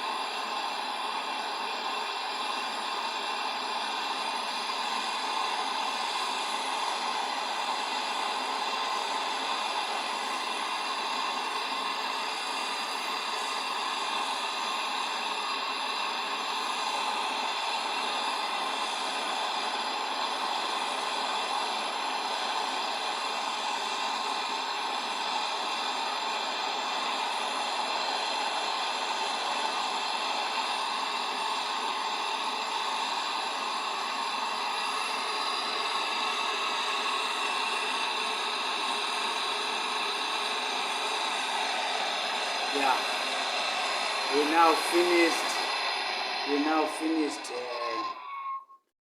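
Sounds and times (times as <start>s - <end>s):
gas torch flame hissing: 0.0s - 48.2s.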